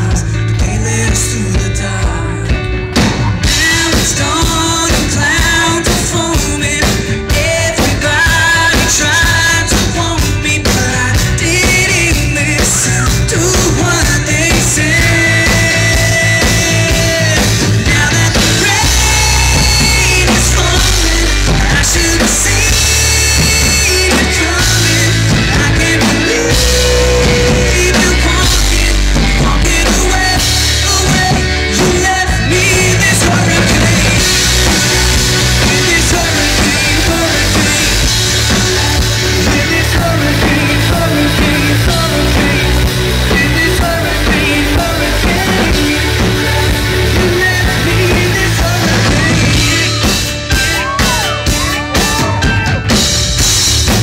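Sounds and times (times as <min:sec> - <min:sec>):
male singer: 0:00.0 - 0:53.2
bass guitar: 0:00.0 - 0:54.0
drum kit: 0:00.0 - 0:54.0
electric guitar: 0:00.0 - 0:54.0.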